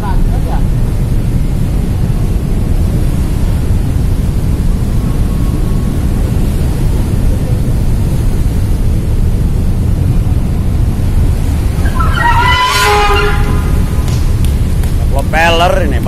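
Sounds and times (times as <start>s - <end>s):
ferry engines rumbling: 0.0s - 16.0s
water churning against hull: 0.0s - 16.0s
wind buffeting microphone: 0.0s - 16.0s.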